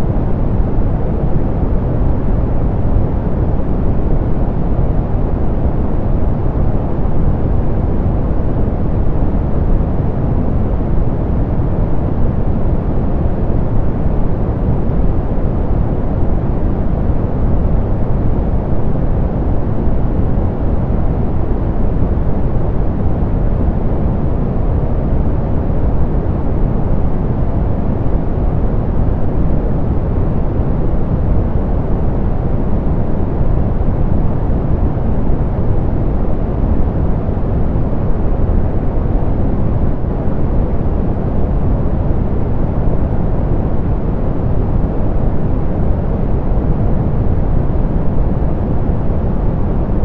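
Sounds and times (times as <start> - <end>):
deep pink noise: 0.0 - 50.0.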